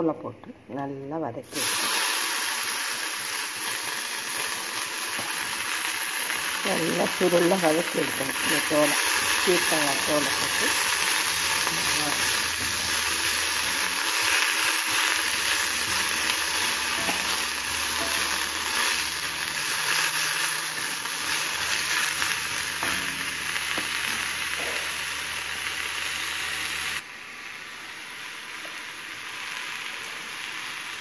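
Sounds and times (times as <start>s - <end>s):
vegetable peels sizzling in a pan: 1.4s - 31.0s.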